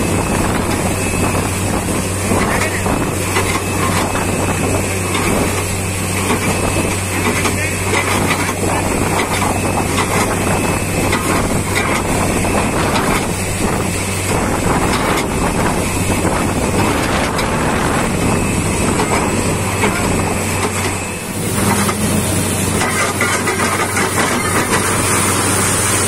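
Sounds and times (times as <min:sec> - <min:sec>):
drilling rig engine hum: 0:00.0 - 0:26.0
water gushing and splashing: 0:00.0 - 0:26.0.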